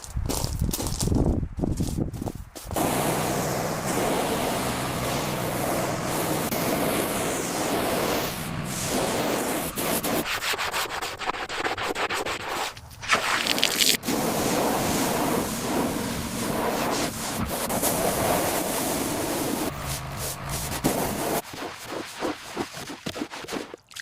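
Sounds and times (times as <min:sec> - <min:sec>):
abrasive rubbing on hard surface: 0:02.8 - 0:23.8.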